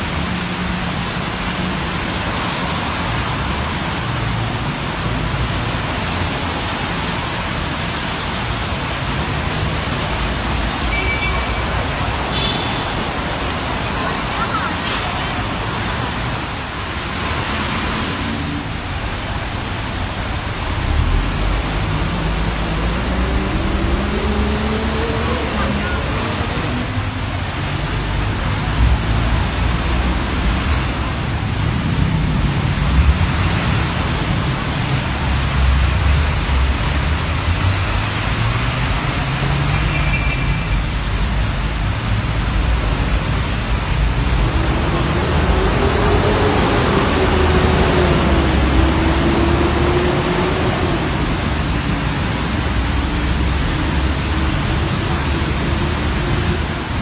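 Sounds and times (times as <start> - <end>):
rain: 0.0 - 57.0
tyres hissing on wet asphalt: 0.0 - 57.0
vehicle engines: 0.0 - 57.0.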